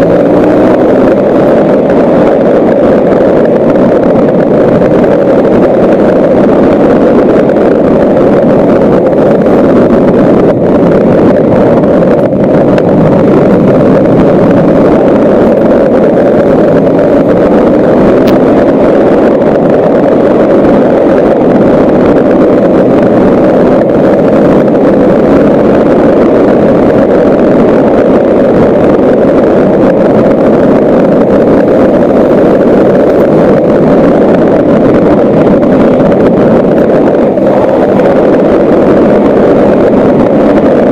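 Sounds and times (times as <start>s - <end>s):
vehicle driving on gravel: 0.0s - 40.9s
wind noise on microphone: 0.0s - 40.9s.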